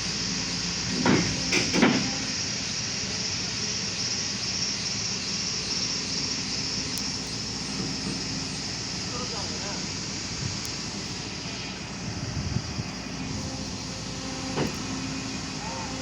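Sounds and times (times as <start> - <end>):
excavator running: 0.0 - 16.0.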